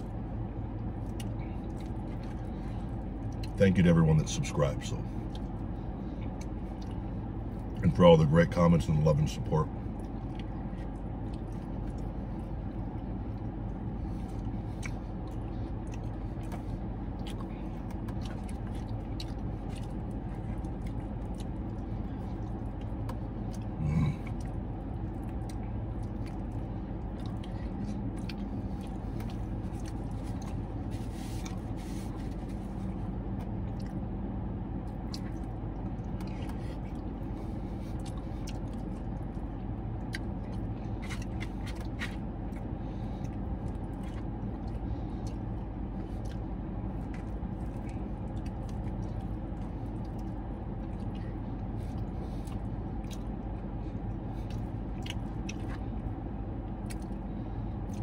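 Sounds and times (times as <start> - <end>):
chewing: 0.0 - 58.0
low hum inside car: 0.0 - 58.0.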